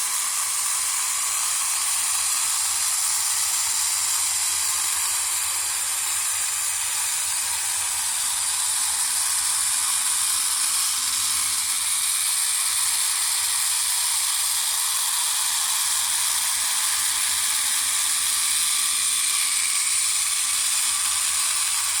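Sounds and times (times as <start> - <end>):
small electric motor whirring: 0.0 - 22.0.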